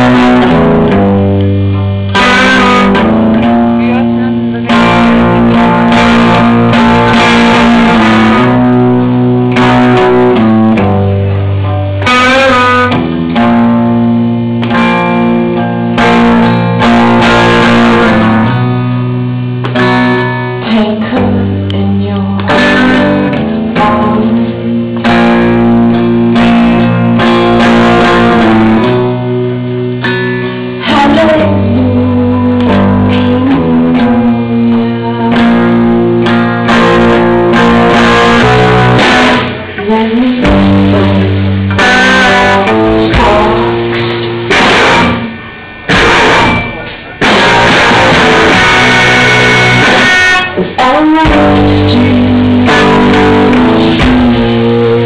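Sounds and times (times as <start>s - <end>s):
electric guitar chords: 0.0s - 55.0s.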